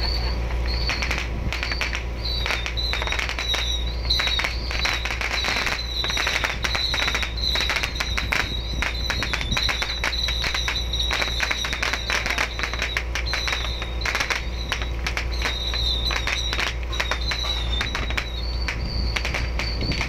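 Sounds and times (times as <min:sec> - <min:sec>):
boat engine drone: 0:00.0 - 0:20.0
firecrackers cracking: 0:00.0 - 0:20.0.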